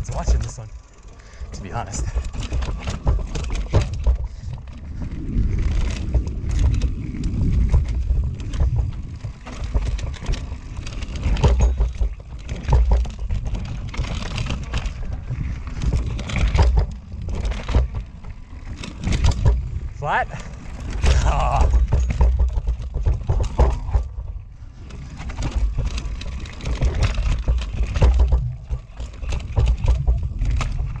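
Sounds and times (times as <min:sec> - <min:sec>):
bike rattling and knocking: 0:00.0 - 0:31.0
bike tyres on dirt and roots: 0:00.0 - 0:31.0.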